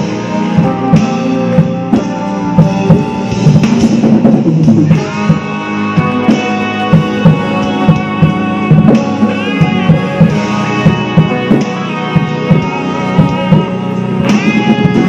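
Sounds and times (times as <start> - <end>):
bending guitar note: 0.0 - 15.0
electric guitar chords: 0.0 - 15.0
rock drum kit playing: 0.0 - 15.0.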